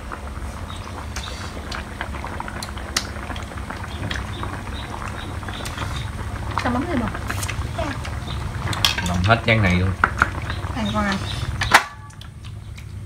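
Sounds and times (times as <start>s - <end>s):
broth bubbling in a pan: 0.0s - 13.0s.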